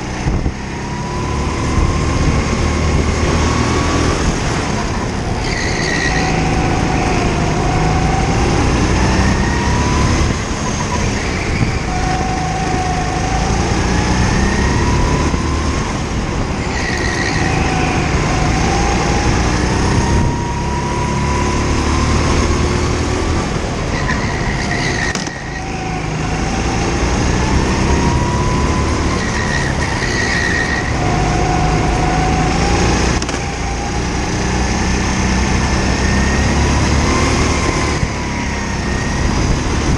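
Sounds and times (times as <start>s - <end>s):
go-kart engine accelerating: 0.0s - 39.9s.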